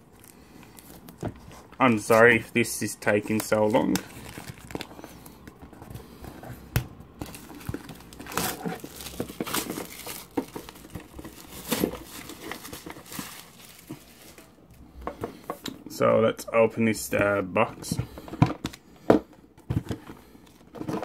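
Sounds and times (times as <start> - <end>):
packaging crinkling and rustling: 0.0 - 15.7, 19.6 - 21.0.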